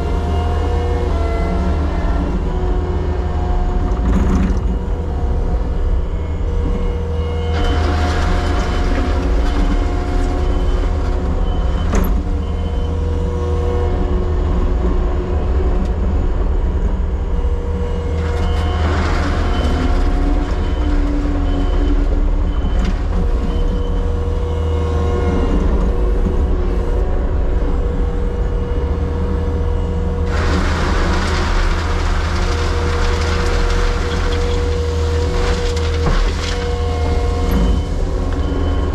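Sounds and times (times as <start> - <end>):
engine whine: 0.0 - 38.9
excavator diesel engine running: 0.0 - 38.9.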